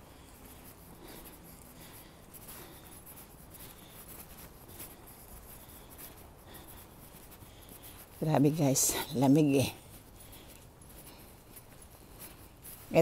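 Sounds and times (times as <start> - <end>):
faint outdoor hiss: 0.0 - 13.0
footsteps scuffing on pavement: 0.0 - 13.0.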